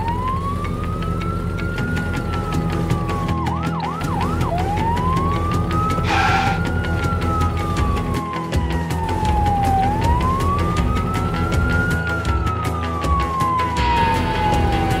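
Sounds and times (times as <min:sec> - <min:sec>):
cartoon police siren wailing: 0:00.0 - 0:15.0
background music with beat: 0:02.0 - 0:15.0.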